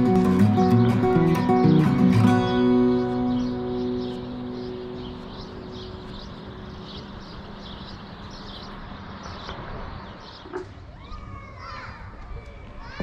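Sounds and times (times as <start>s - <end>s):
outdoor background hiss: 0.0s - 13.0s
small bird chirping: 0.6s - 11.2s.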